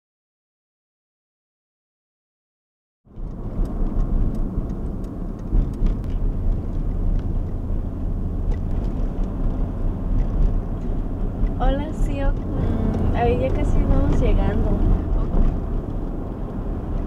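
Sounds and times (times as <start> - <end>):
car road and engine rumble: 3.1 - 17.0.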